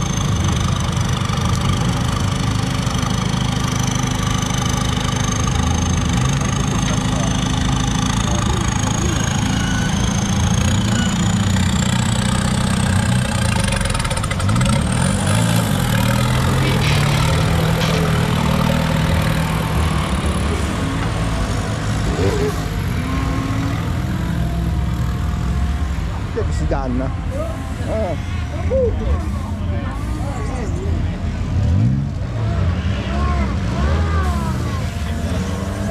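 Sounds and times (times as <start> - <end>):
buggy engine revving: 0.0 - 35.9.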